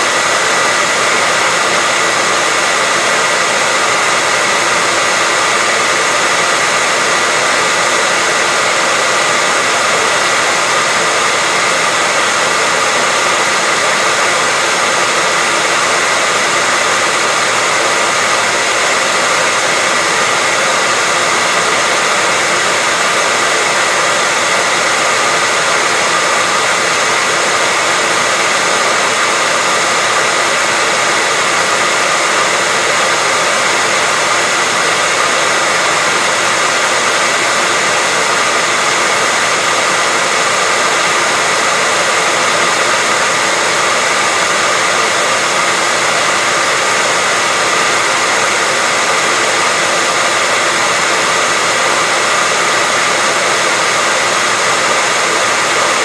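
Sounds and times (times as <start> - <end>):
hairdryer blowing: 0.0 - 56.0.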